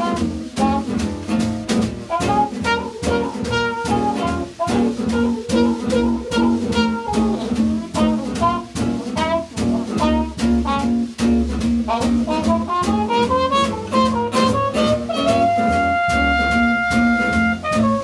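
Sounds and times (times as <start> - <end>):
trumpet phrase: 0.0 - 1.1, 2.1 - 11.2, 11.9 - 18.0
swing jazz band playing: 0.0 - 18.0.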